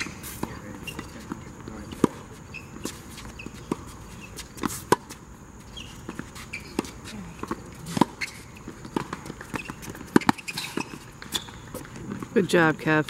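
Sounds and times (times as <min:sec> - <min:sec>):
tennis ball bouncing: 0:00.0 - 0:12.6
rackets striking tennis ball: 0:00.0 - 0:12.7.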